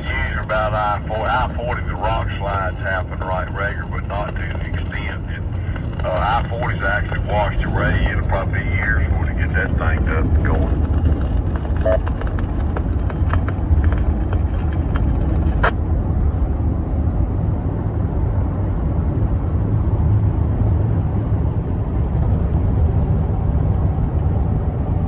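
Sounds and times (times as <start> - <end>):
vehicle road and engine rumble: 0.0 - 25.0.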